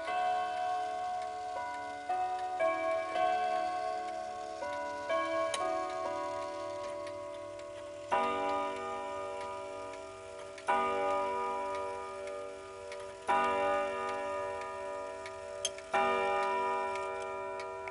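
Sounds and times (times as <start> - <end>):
clock striking on gongs: 0.0 - 17.9
clock ticking: 0.0 - 17.9.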